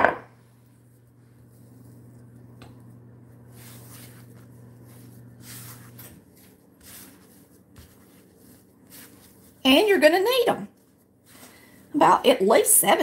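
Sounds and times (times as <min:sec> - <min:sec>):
low steady hum: 0:00.0 - 0:13.0
hands brushing dough: 0:00.5 - 0:11.9.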